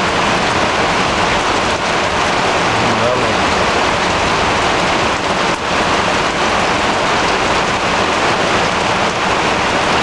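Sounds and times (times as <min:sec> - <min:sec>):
heavy rain on a tarpaulin: 0:00.0 - 0:10.0.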